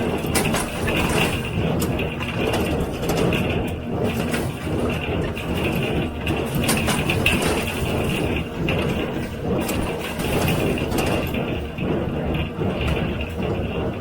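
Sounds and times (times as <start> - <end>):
sharp mechanical knocks: 0.0 - 11.6
baler mechanical clatter: 0.0 - 14.0.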